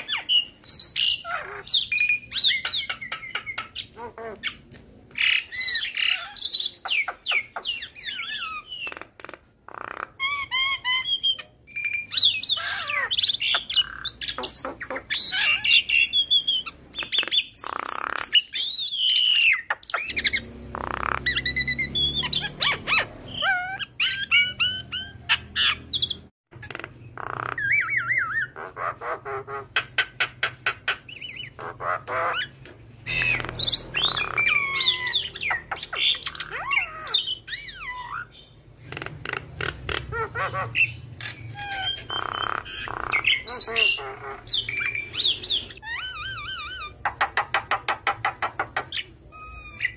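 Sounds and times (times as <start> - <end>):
myna bird singing: 0.0 - 49.9.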